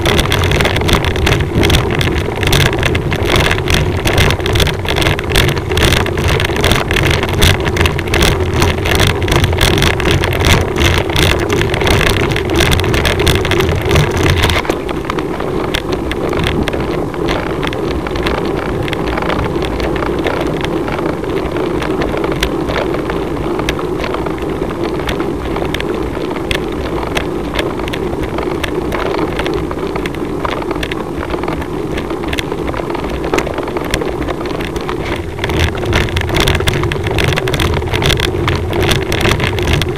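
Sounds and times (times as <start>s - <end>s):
road rumble: 0.0s - 39.9s
vibration rattle: 0.0s - 39.9s
wind on microphone: 0.0s - 39.9s.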